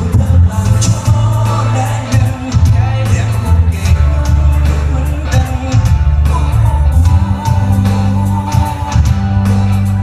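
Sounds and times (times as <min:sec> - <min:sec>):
live pop-rock band playing: 0:00.0 - 0:10.0
man singing lead vocal: 0:00.0 - 0:10.0.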